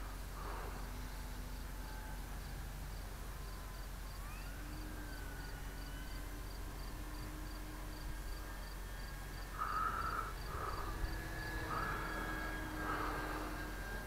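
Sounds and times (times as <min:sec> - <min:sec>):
distant model plane motor whine: 0:00.0 - 0:14.0.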